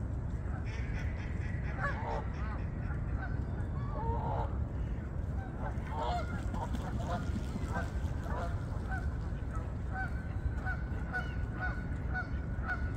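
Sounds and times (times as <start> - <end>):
geese honking: 0.7 - 12.9.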